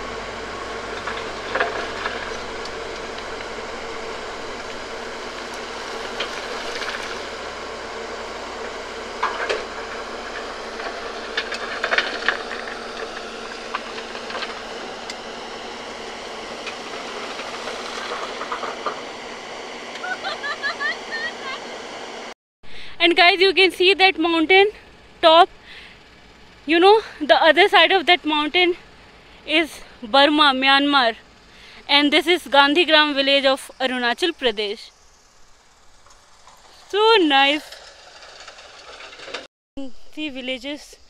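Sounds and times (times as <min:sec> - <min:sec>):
excavator engine and hydraulic drone: 0:00.0 - 0:41.0.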